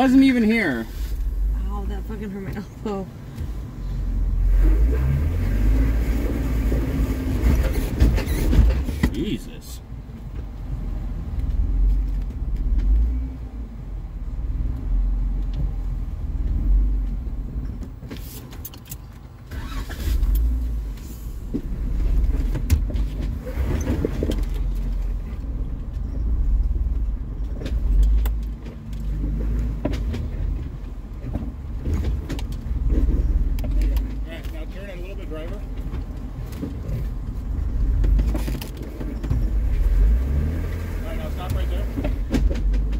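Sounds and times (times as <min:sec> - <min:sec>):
deep engine rumble: 0:00.0 - 0:18.0, 0:19.5 - 0:42.9.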